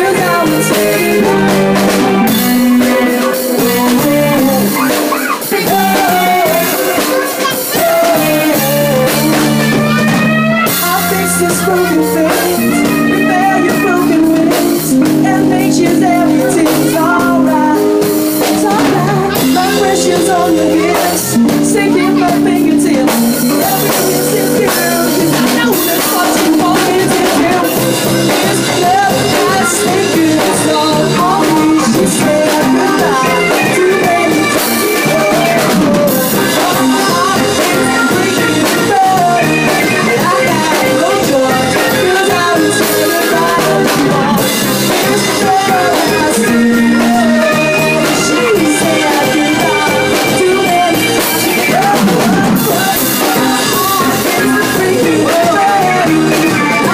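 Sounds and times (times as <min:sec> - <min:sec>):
drum kit: 0:00.0 - 0:56.9
electric guitar: 0:00.0 - 0:56.9
man singing into a microphone: 0:00.0 - 0:56.9.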